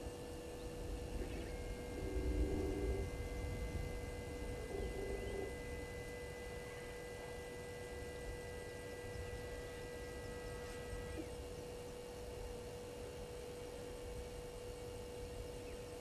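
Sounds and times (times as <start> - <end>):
electrical hum: 0.0 - 16.0
faint high whine: 0.0 - 16.0.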